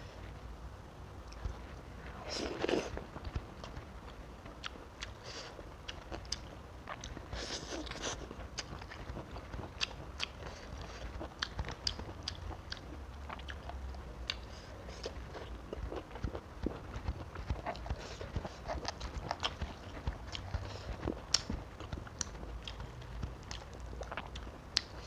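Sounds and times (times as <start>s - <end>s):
crunchy chewing: 1.3s - 25.0s.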